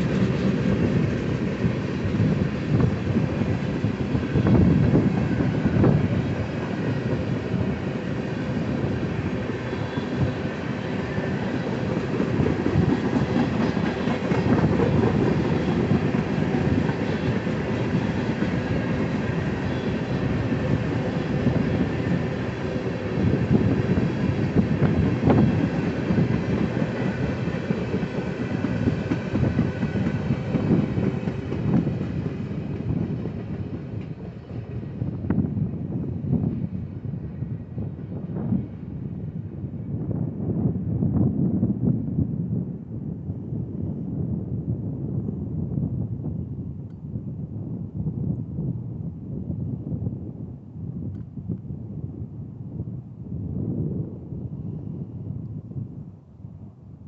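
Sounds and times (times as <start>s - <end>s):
train wheels rumbling on rail: 0.0s - 51.7s.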